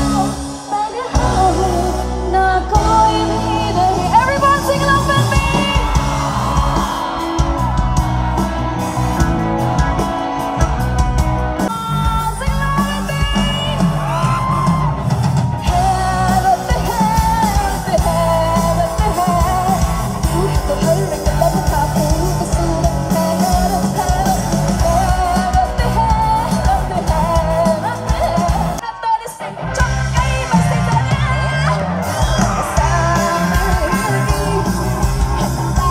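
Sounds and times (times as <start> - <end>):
woman singing: 0.0 - 6.6, 11.7 - 14.8, 15.6 - 35.9
live band playing: 0.0 - 35.9.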